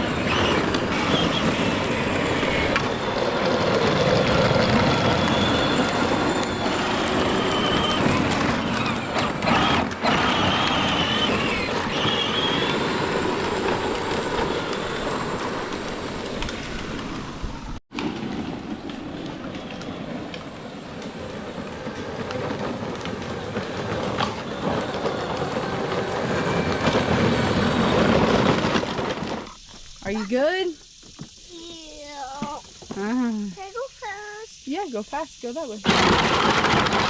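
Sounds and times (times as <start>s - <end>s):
toy tractor rattling rumble: 0.0s - 17.3s, 18.0s - 29.7s, 35.8s - 37.0s.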